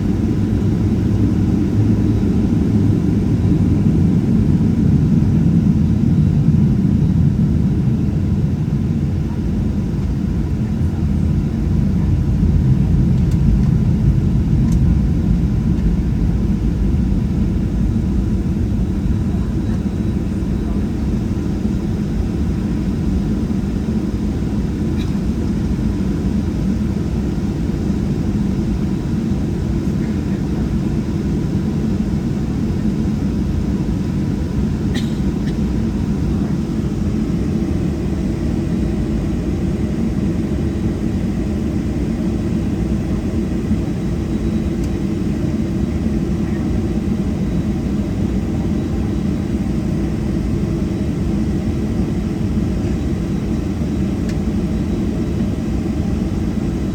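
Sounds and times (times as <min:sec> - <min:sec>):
aircraft engines low rumble: 0:00.0 - 0:56.9.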